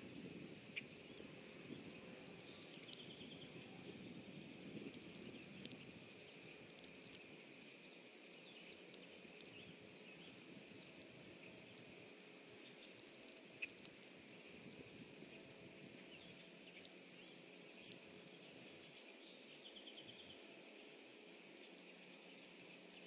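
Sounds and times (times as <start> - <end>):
soft ticks and rustles: 0.0 - 23.0.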